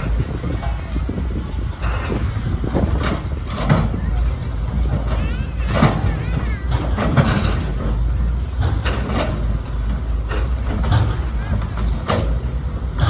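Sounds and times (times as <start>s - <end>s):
machinery rumbling with noisy surges: 0.0s - 13.0s.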